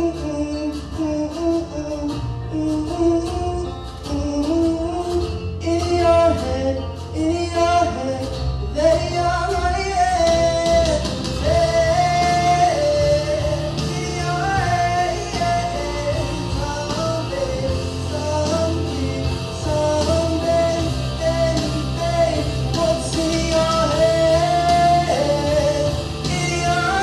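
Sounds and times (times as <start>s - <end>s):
instrumental backing with bass: 0.0s - 27.0s
man singing rock ballad: 0.0s - 27.0s.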